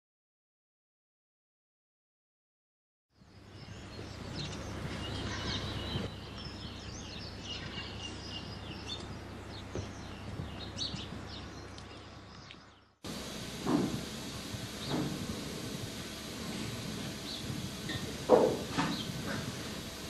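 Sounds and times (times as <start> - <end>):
birds chirping and singing: 3.2 - 20.0
low background hum: 3.2 - 20.0.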